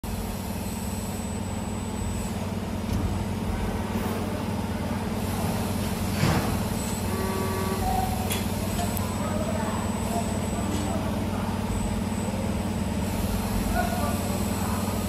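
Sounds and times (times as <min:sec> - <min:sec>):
wire forming machine humming: 0:00.0 - 0:15.0.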